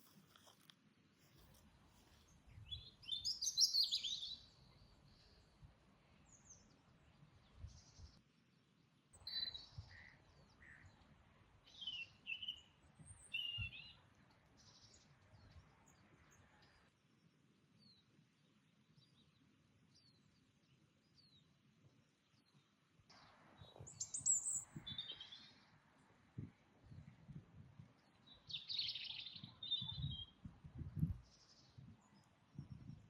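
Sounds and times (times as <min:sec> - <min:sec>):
faint outdoor background noise: 0:00.0 - 0:33.0
songbirds chirping: 0:00.0 - 0:33.0.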